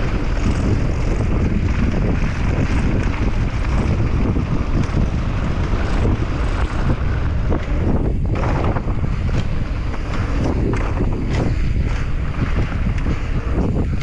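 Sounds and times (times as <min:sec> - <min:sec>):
bike rattling over bumps: 0:00.0 - 0:14.0
tyres rumbling over dirt: 0:00.0 - 0:14.0
wind buffeting microphone: 0:00.0 - 0:14.0.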